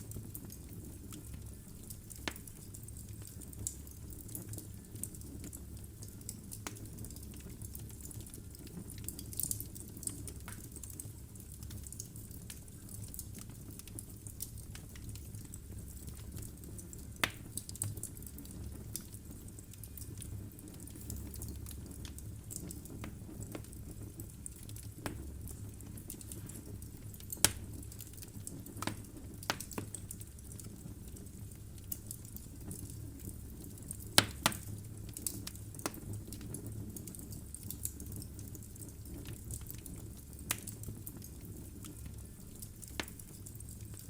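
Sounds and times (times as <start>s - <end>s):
logs crackling in a fireplace: 0.0s - 44.0s.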